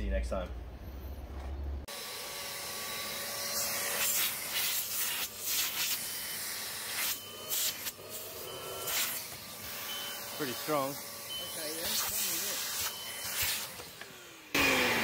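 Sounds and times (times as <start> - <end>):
vacuum motor whine: 1.9 - 5.2, 6.0 - 15.0.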